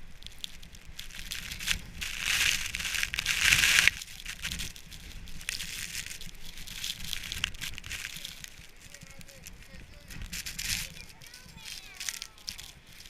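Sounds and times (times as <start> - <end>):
snow crunching: 0.0 - 13.0.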